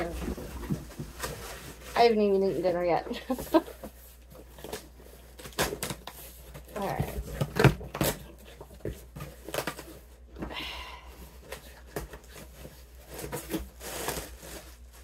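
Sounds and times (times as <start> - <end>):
cardboard boxes knocking and rustling: 0.0 - 10.6, 11.4 - 14.8.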